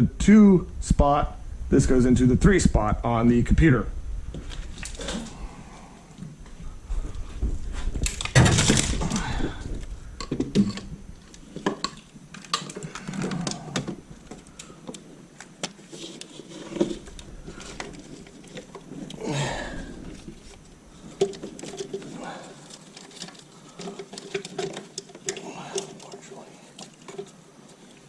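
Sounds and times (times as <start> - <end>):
clattering and rustling: 4.3 - 28.0.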